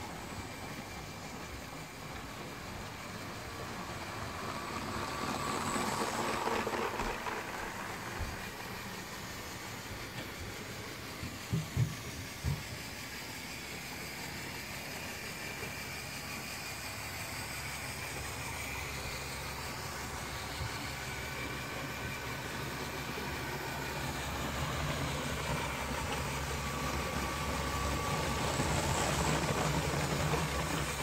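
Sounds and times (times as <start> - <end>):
toy train motor and wheels: 0.0 - 31.0.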